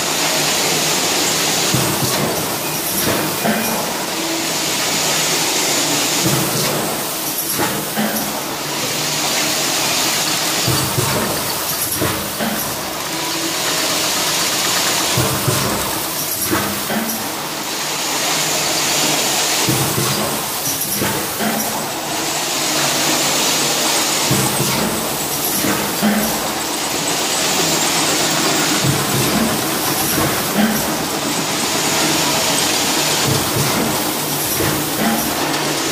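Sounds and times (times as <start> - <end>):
cup-filling machine running: 0.0 - 35.9.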